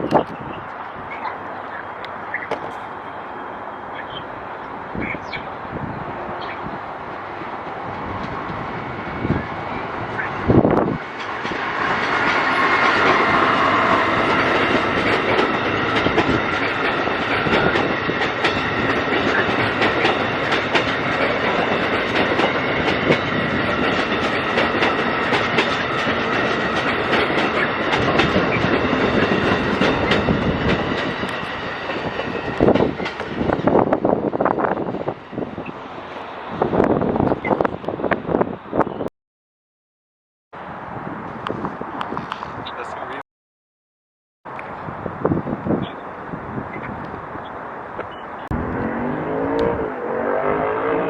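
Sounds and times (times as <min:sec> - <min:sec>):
passenger train passing: 0:00.0 - 0:39.1, 0:40.6 - 0:43.2, 0:44.5 - 0:51.0.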